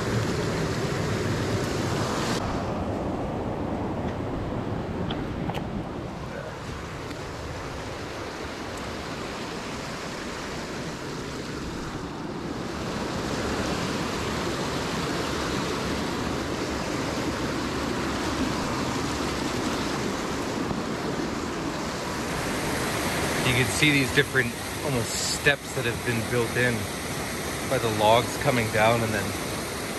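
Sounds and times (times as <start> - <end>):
creek water rushing: 0.0 - 29.9.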